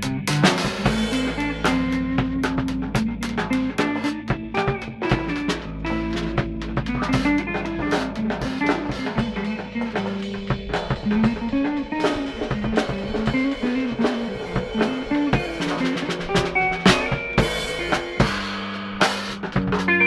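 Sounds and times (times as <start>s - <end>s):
drum kit hits: 0.0s - 20.0s
plucked guitar line: 0.0s - 20.0s.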